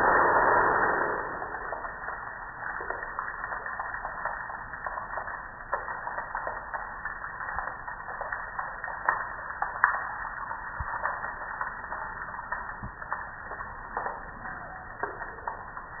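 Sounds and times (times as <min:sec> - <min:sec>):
water splashing on grill and concrete: 0:00.0 - 0:16.0.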